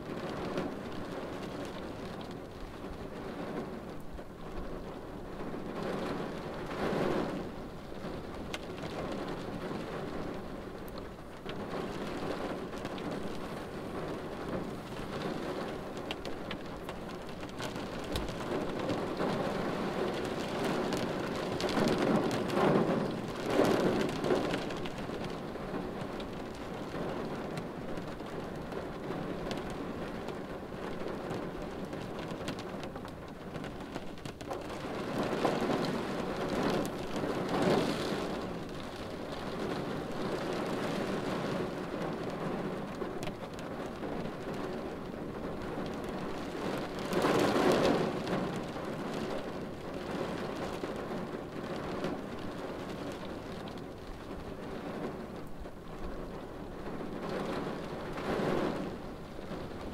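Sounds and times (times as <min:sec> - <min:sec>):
rain on car windshield: 0:00.0 - 0:59.9.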